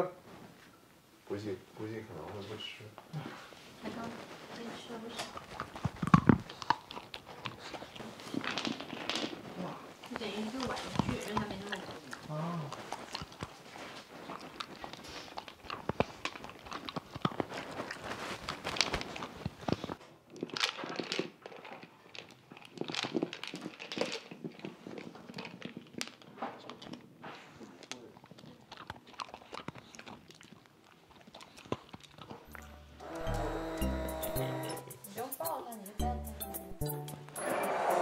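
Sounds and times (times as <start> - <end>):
dog crunching kibble: 3.9 - 34.7.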